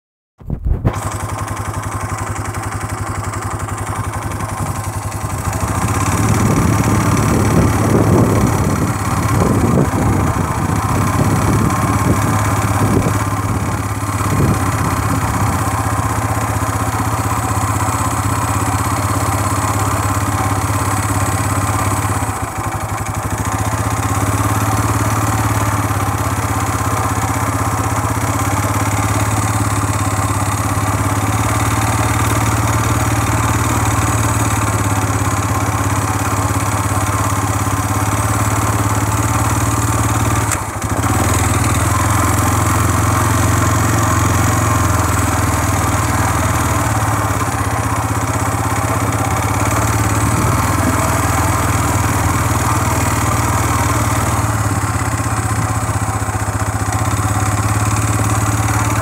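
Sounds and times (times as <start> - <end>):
quad bike engine running: 0.5 - 59.0.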